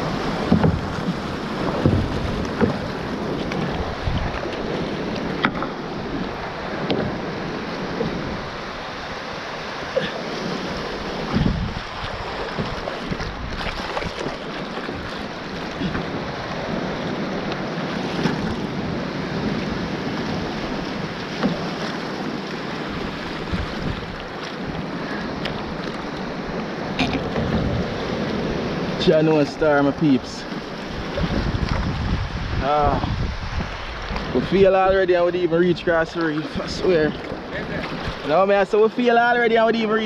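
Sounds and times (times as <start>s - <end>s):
wind buffeting microphone: 0.0s - 38.7s
surf breaking: 0.0s - 40.0s
water sloshing around raft: 0.0s - 40.0s.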